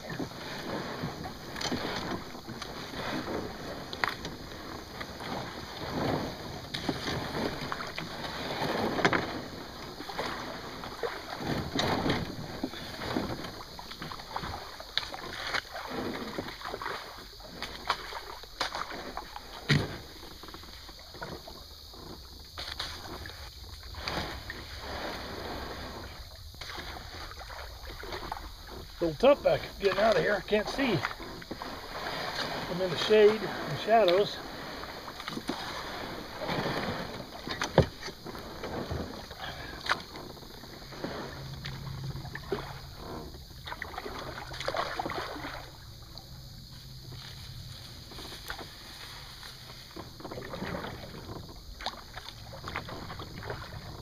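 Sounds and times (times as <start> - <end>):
paddle splashes: 0.0 - 54.0
water swishing: 0.0 - 54.0.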